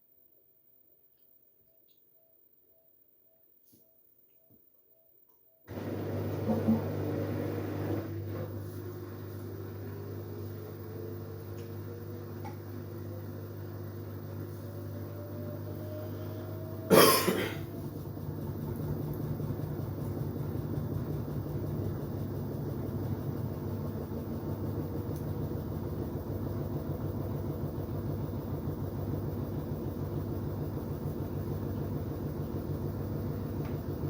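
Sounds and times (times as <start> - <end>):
washing machine motor whining: 5.7 - 34.0.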